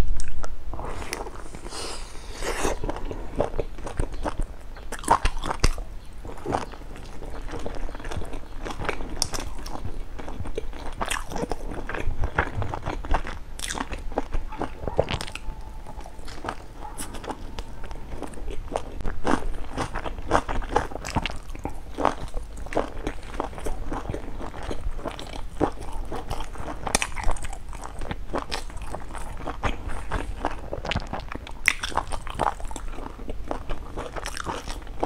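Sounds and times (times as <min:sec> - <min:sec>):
person chewing soft buns: 0:00.2 - 0:35.0.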